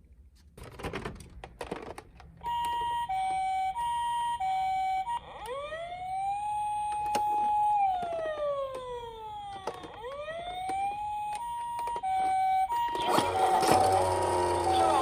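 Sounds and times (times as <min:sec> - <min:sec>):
toy electronic siren: 0:02.4 - 0:15.0.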